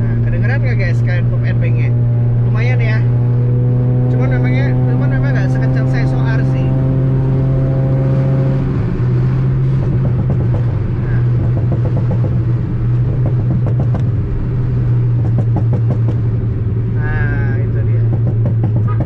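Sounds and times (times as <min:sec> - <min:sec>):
car engine droning: 0:00.0 - 0:19.0.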